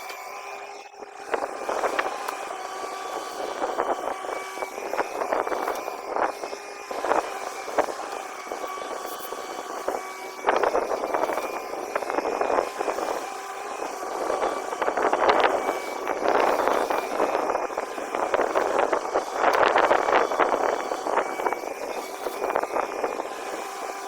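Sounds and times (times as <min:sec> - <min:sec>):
excavator engine and hydraulics whine: 0:00.0 - 0:24.0.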